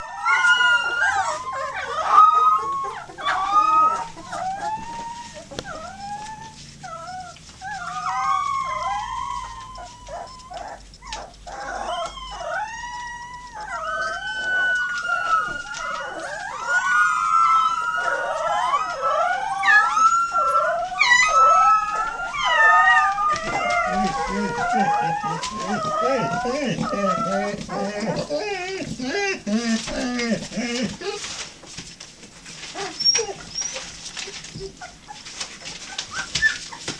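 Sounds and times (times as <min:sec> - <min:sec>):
puppies howling and whimpering: 0:00.0 - 0:31.5, 0:32.5 - 0:36.9.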